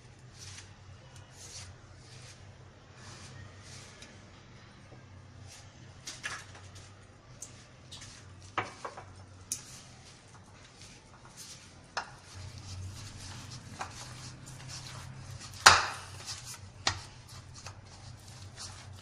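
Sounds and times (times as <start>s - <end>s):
dough kneaded by hand: 0.0s - 19.0s.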